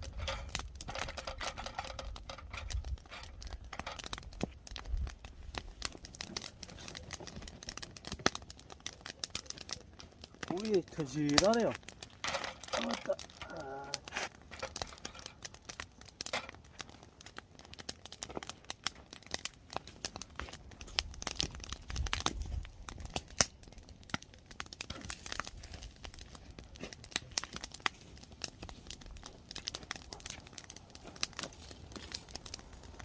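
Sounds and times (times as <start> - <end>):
fire crackling: 0.0 - 33.0
shells popping and snapping: 0.1 - 33.0.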